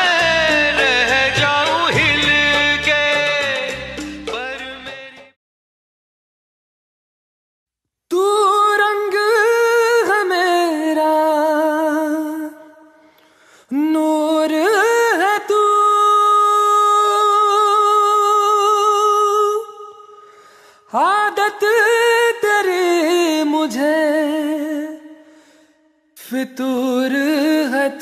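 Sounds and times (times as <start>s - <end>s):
solo voice singing wordless melody: 0.0s - 5.4s, 8.1s - 13.1s, 13.7s - 25.5s, 26.2s - 28.0s.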